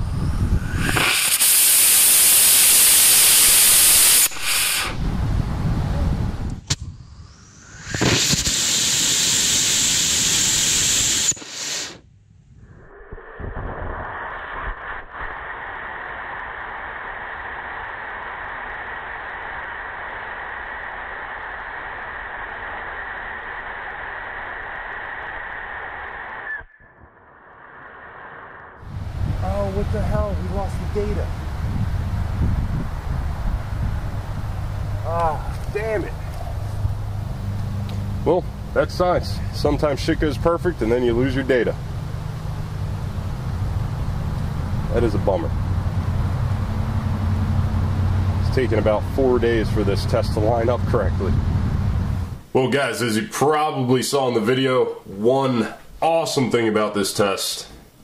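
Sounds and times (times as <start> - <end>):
rocket motor popping: 0.0 - 5.5, 6.4 - 52.5
rocket motor loud hiss: 0.0 - 52.5.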